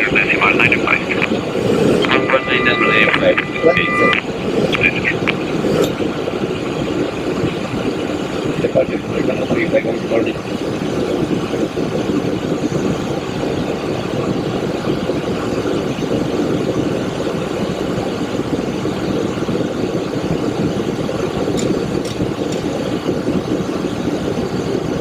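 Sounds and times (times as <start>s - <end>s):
airflow and engine noise: 0.0s - 25.0s.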